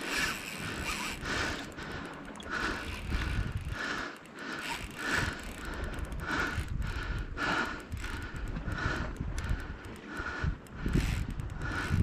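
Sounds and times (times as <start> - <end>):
fishing reel whirring: 0.0 - 12.0
low wind: 0.0 - 12.0.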